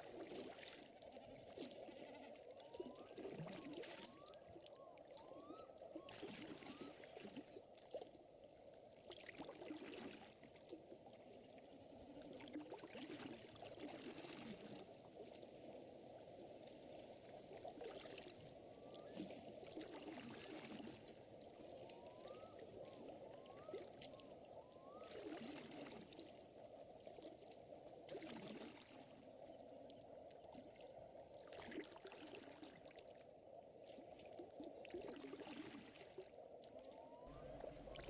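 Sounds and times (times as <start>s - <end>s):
water lapping at a shore: 0.0s - 38.0s.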